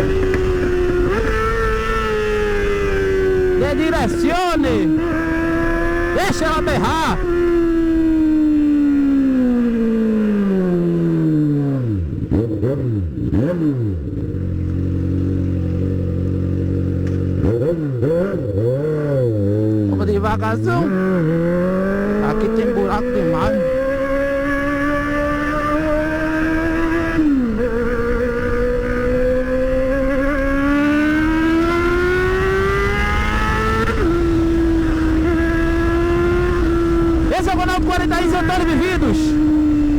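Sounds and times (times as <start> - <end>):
wind rumble: 0.0 - 17.2, 20.8 - 39.9
motorcycle engine revving and idling: 0.0 - 39.9.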